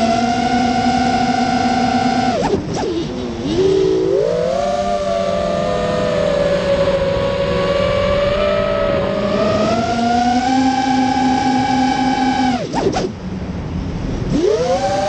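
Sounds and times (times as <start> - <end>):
drone motors whining: 0.0 - 13.3, 14.2 - 15.0.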